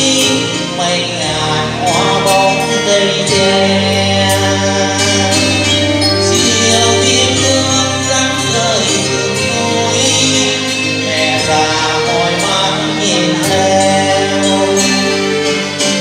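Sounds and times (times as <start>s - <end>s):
person singing over backing track: 0.0s - 16.0s.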